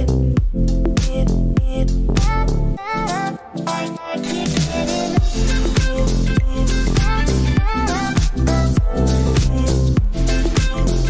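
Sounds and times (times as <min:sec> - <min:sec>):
upbeat music with beat and bass: 0:00.0 - 0:11.0.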